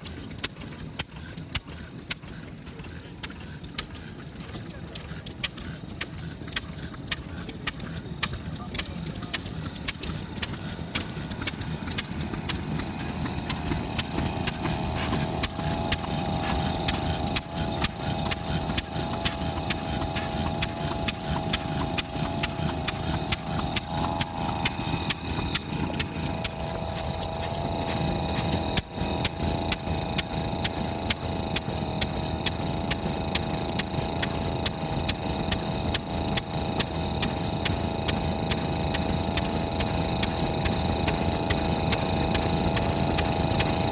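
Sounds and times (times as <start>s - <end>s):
stationary engine running: 0.0s - 43.9s.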